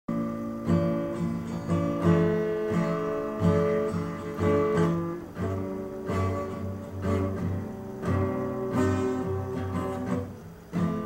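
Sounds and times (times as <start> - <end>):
acoustic guitar strumming chords: 0.1 - 11.0.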